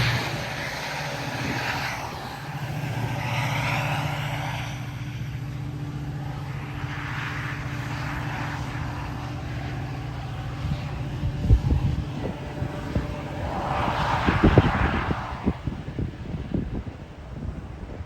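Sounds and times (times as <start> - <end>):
diesel locomotive humming: 0.0 - 18.0.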